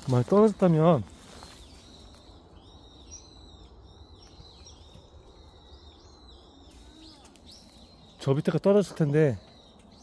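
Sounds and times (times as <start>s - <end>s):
faint bird chirps: 0.1s - 10.0s.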